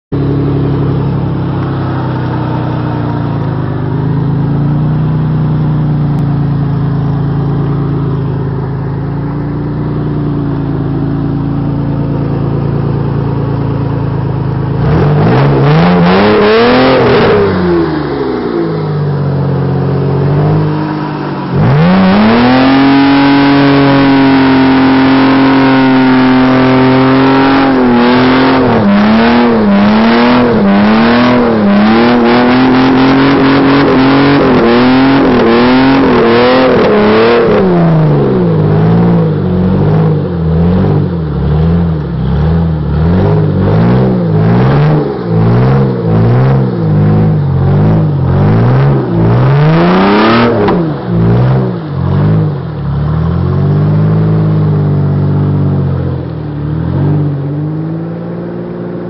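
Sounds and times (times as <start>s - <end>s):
off-road vehicle engine revving: 0.1s - 59.0s.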